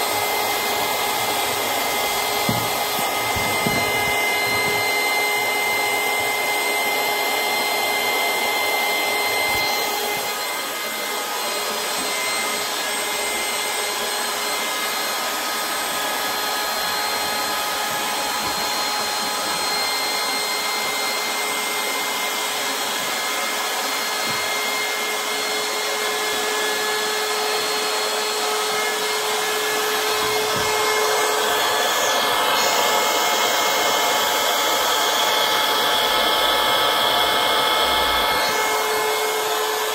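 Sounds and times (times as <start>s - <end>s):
electric air pump running: 0.0s - 39.9s.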